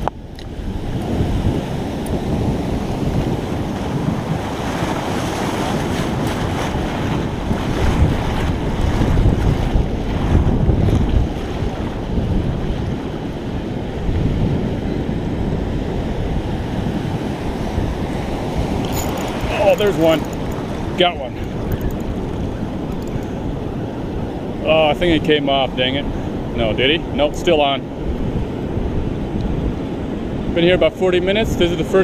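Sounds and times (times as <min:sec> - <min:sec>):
ocean surf washing up the beach: 0:00.0 - 0:32.0
wind buffeting the microphone: 0:00.0 - 0:32.0.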